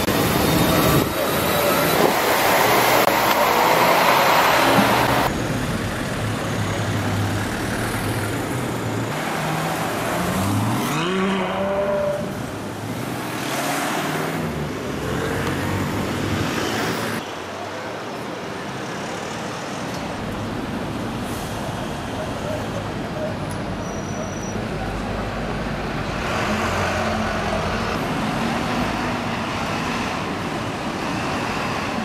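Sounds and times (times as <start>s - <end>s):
street traffic: 0.0s - 32.0s.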